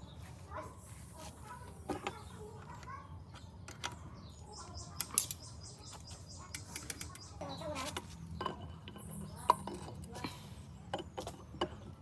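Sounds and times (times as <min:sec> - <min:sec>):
small bird chirping: 0:01.5 - 0:12.0.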